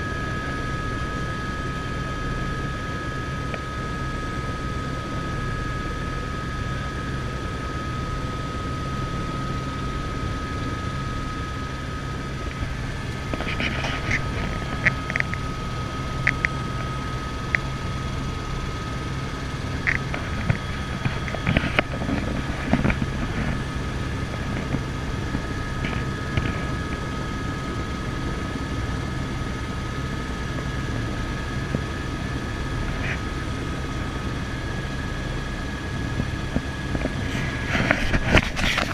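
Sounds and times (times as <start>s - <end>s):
helicopter rotor drone: 0.0s - 38.9s
thin turbine whine: 0.0s - 38.9s.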